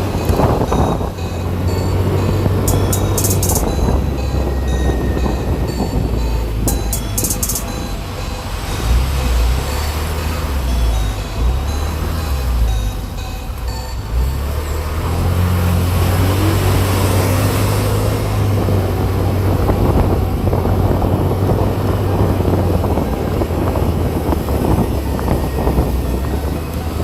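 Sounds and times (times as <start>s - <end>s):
car engine and road drone: 0.0s - 27.0s.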